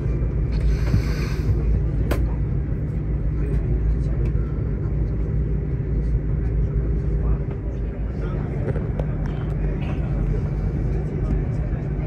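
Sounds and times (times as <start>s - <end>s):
train rumbling at speed: 0.0s - 12.0s.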